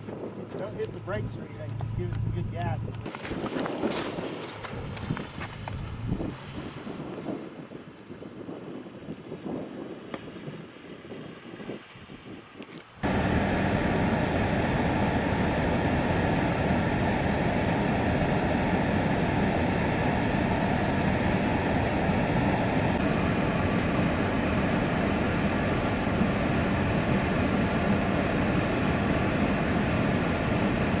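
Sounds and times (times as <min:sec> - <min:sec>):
vehicle engine hum: 0:00.0 - 0:06.9, 0:12.6 - 0:31.0
road noise: 0:00.0 - 0:08.1, 0:10.1 - 0:31.0.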